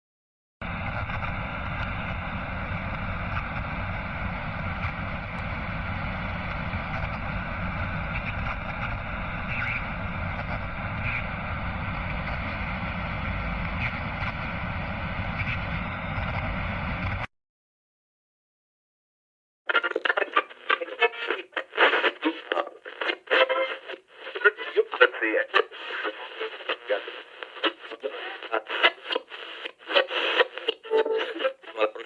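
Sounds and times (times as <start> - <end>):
radio static hiss: 0.6 - 17.3, 19.7 - 32.0
faint crackles: 0.7 - 14.6, 19.7 - 32.0.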